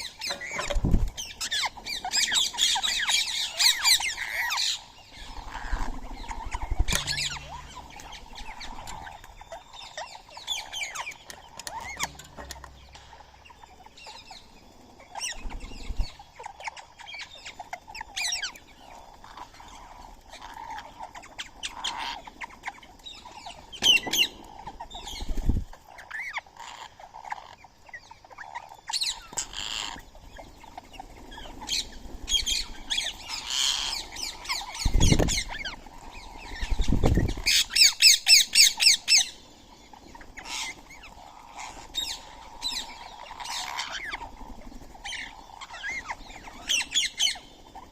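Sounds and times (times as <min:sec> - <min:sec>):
parakeets chirping and squawking: 0:00.0 - 0:27.6, 0:28.2 - 0:39.3, 0:40.0 - 0:47.9
harsh repeated bird calls: 0:00.0 - 0:47.9.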